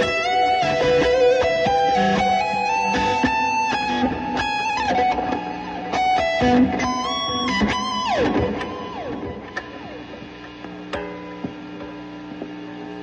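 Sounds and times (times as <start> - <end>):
amplifier hum: 0.0 - 13.0
electric guitar sustained notes: 0.0 - 13.0.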